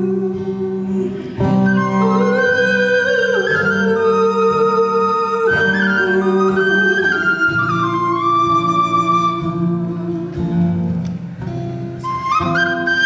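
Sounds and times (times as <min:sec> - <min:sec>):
slow melody of held notes: 0:00.0 - 0:11.2
guitar accompaniment: 0:00.0 - 0:13.0.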